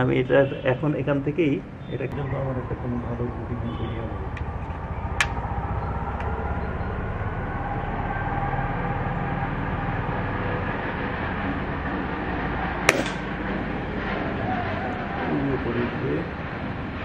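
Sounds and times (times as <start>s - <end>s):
passing vehicle rumble: 1.6s - 17.0s.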